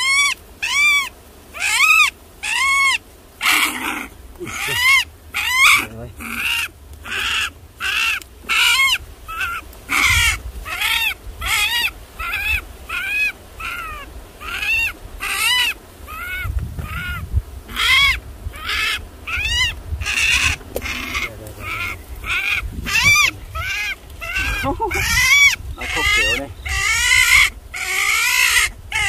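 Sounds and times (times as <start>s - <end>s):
small animal squealing in distress: 0.0s - 29.0s.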